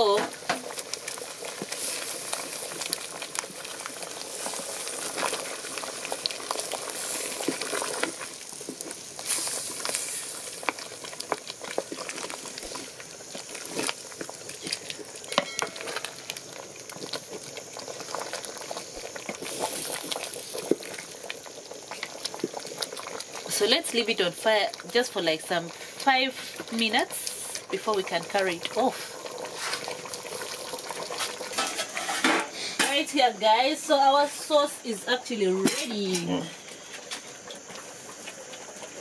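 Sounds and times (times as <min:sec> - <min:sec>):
thick sauce bubbling and popping: 0:00.0 - 0:33.1, 0:35.6 - 0:39.0.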